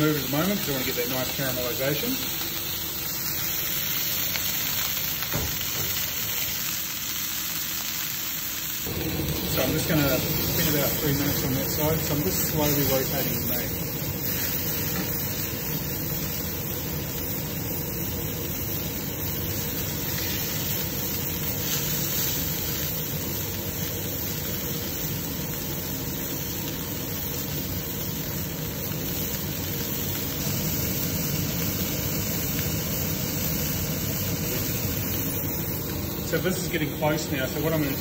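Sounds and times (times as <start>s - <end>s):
gas flame drone: 0.0s - 38.0s
meat sizzling in a frying pan: 0.0s - 38.0s.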